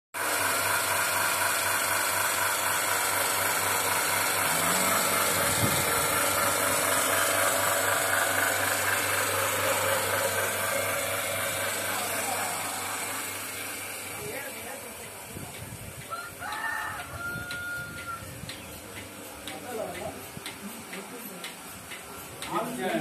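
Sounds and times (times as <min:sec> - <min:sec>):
vacuum pump drone: 0:00.2 - 0:23.0.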